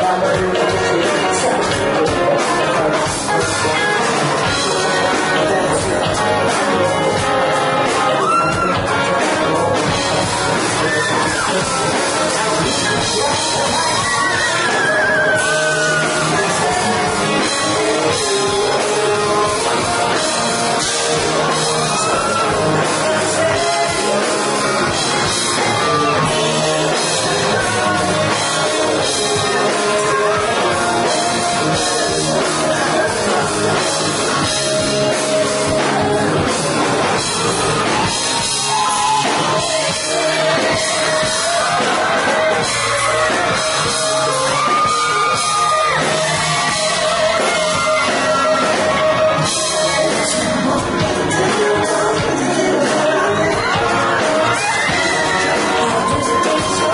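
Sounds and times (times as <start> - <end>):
distorted electric guitar: 0.0 - 56.9
drum kit: 0.0 - 56.9
man singing: 0.0 - 56.9.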